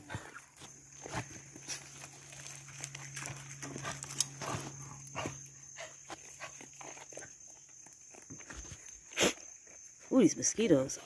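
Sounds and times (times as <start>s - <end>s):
goats chewing hay: 0.0s - 10.1s.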